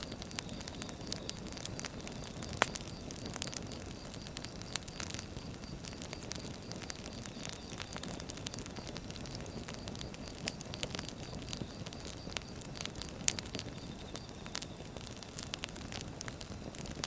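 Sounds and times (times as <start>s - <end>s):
fire low rumble: 0.0s - 17.0s
fire popping and crackling: 0.0s - 17.0s.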